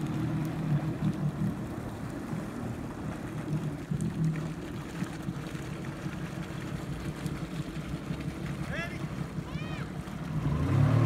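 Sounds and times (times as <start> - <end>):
jet ski engine humming: 0.0 - 11.0.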